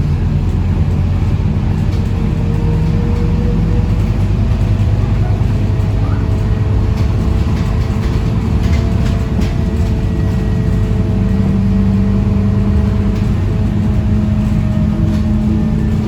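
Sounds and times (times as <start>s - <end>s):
bus body rattling: 0.0s - 16.0s
bus engine rumbling: 0.0s - 16.0s.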